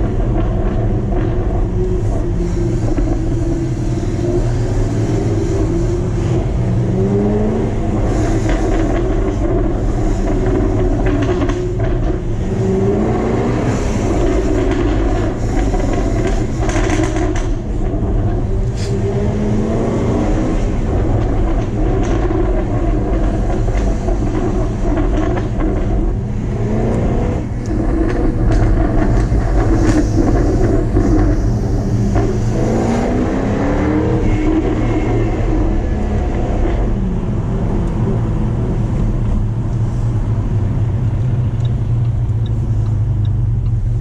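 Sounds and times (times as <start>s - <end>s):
car engine revving: 0.0s - 44.0s
engine low drone: 0.0s - 44.0s.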